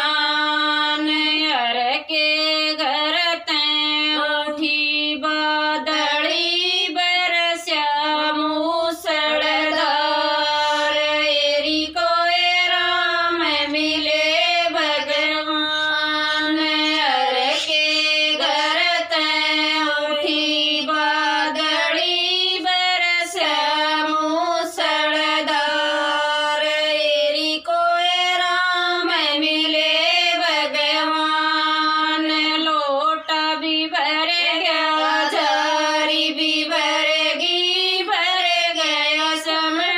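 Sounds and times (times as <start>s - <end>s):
women singing together: 0.0s - 39.9s.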